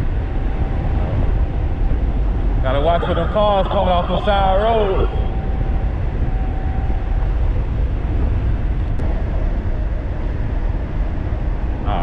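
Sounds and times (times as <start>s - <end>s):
faint steady whine: 0.0s - 12.0s
wind rushing over microphone: 0.0s - 12.0s.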